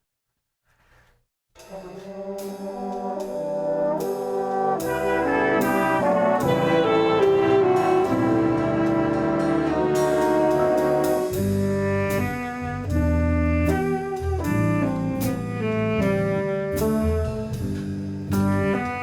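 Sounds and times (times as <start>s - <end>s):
brass instrumental music: 1.6s - 19.0s.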